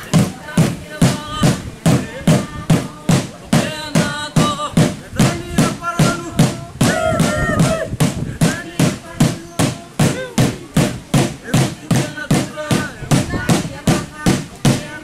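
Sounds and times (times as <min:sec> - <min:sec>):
steady struck drum beat: 0:00.0 - 0:15.0
voices chanting: 0:00.0 - 0:15.0.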